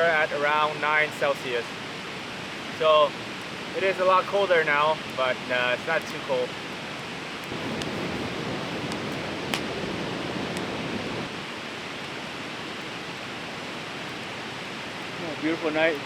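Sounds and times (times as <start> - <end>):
campfire crackles: 0.0 - 16.0.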